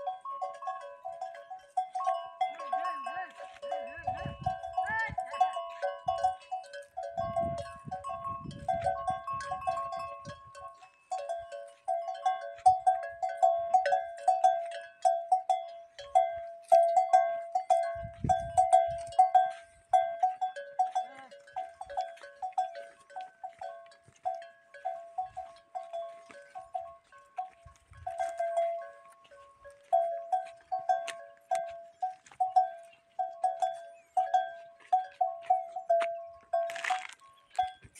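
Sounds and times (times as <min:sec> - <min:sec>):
camel bells clanking: 0:00.0 - 0:37.9.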